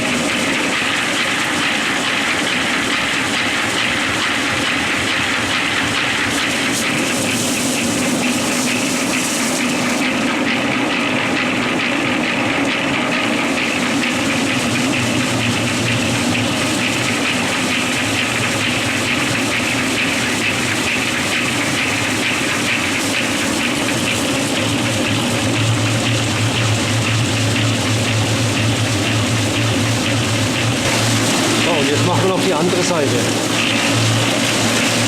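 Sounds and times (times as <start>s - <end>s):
concrete mixer running: 0.0s - 35.0s.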